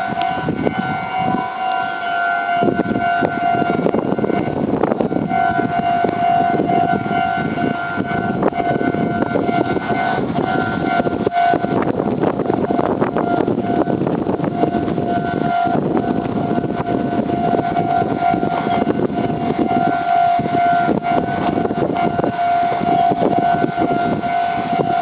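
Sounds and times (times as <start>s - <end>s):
level-crossing warning bell: 0.0s - 25.0s
train rumbling: 0.0s - 25.0s.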